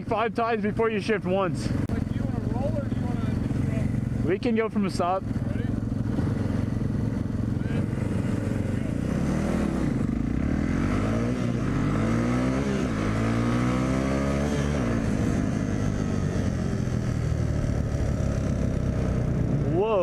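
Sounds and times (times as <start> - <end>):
dirt bike engine accelerating: 0.0 - 20.0.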